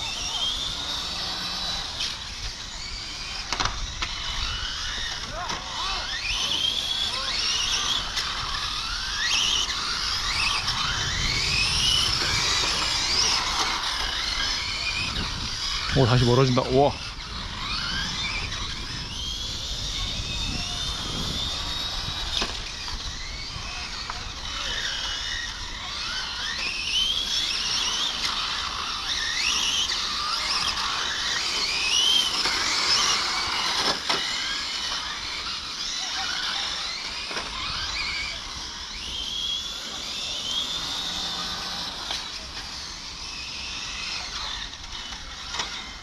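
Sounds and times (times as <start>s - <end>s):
rc car motors whining: 0.0s - 46.0s.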